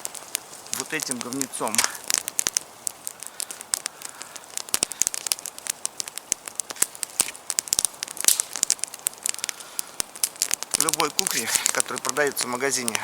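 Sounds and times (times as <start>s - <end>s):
campfire crackling and popping: 0.0s - 13.0s
faint hiss of fire: 0.0s - 13.0s.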